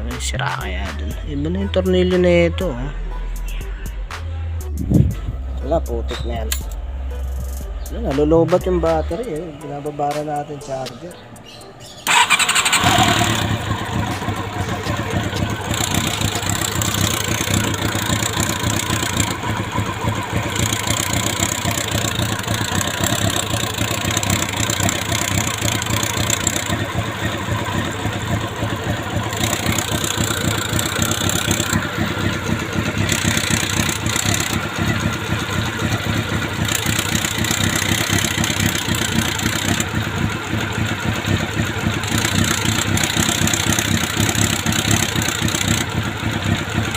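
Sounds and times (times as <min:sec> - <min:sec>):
motorcycle engine idling: 0:04.8 - 0:46.9
engine rattle: 0:05.0 - 0:46.9.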